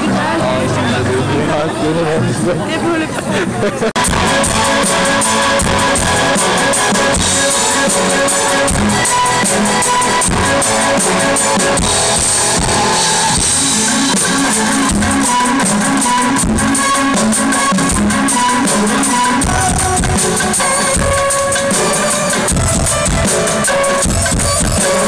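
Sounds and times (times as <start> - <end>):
guitar: 0.0 - 25.0
rock band playing: 3.9 - 25.0
drum kit: 4.0 - 25.0.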